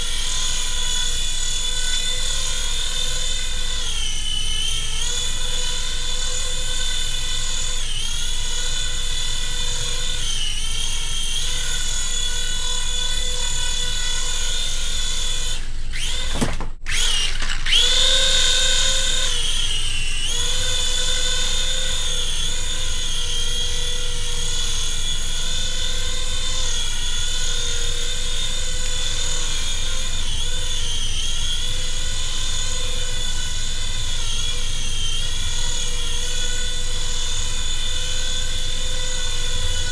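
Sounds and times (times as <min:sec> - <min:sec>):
toy helicopter motors whining: 0:00.0 - 0:39.9.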